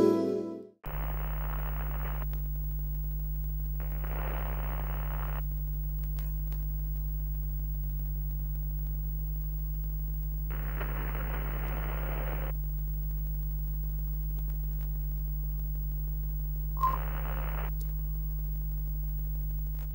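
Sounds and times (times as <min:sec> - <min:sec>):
crackly static bursts: 0:00.8 - 0:19.9
electrical hum: 0:00.8 - 0:19.9.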